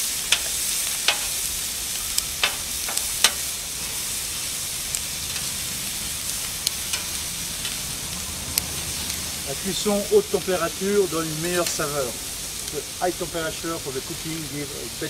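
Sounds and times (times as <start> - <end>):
vegetables sizzling on a griddle: 0.0 - 15.0.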